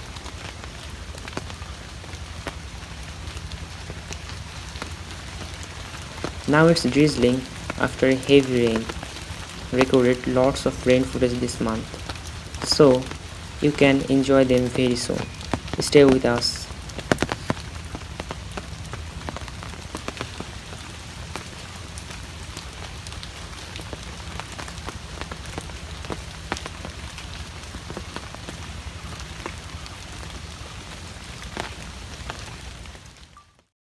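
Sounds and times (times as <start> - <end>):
drizzle pattering on pond and leaves: 0.0 - 33.7.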